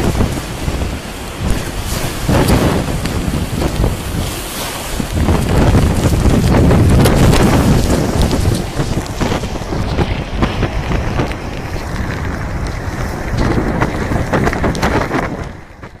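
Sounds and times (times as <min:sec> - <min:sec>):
waves washing over breakwall: 0:00.0 - 0:16.0
wind buffeting microphone: 0:00.0 - 0:16.0.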